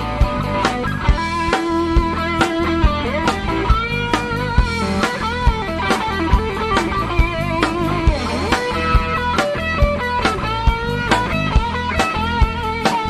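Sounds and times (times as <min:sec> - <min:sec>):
electric guitar lead: 0:00.0 - 0:13.0
steady drum beat: 0:00.0 - 0:13.0.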